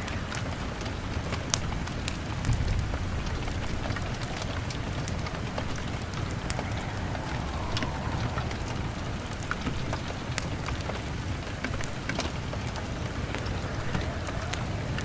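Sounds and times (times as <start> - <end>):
log fire crackling: 0.0 - 15.0
rain pattering on window: 0.0 - 15.0.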